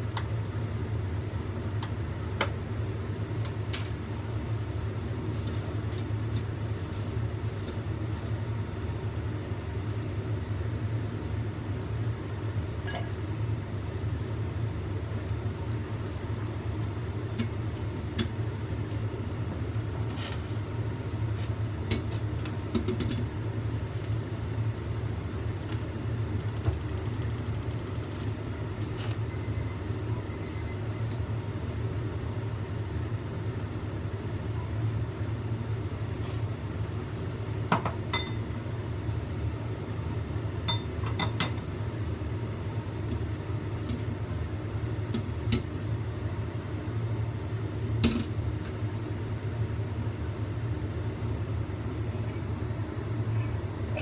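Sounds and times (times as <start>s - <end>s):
low kitchen hum: 0.0s - 54.0s.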